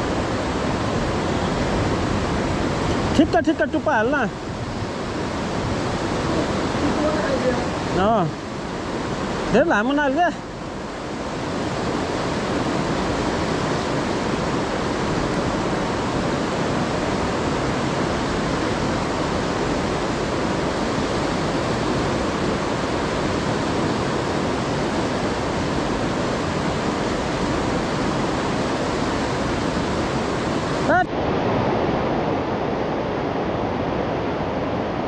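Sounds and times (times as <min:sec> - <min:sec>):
white water rushing through gorge: 0:00.0 - 0:35.0.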